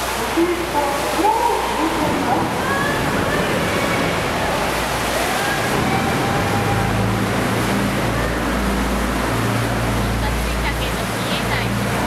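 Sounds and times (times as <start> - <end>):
boat engine hum: 0.0 - 12.0
water rushing: 0.0 - 12.0.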